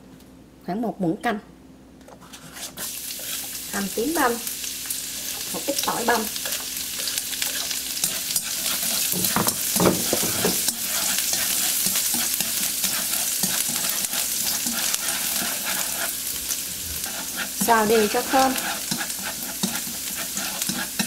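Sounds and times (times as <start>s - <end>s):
garlic sizzling in hot oil: 2.6s - 21.0s.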